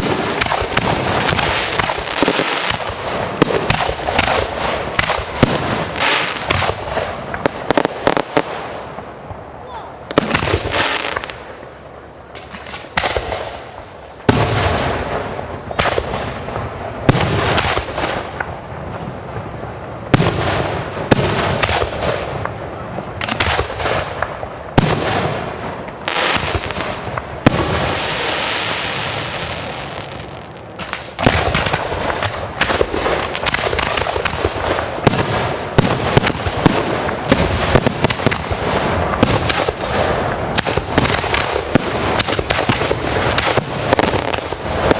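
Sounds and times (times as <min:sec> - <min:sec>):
hissing crackle of fireworks: 0:00.0 - 0:44.9.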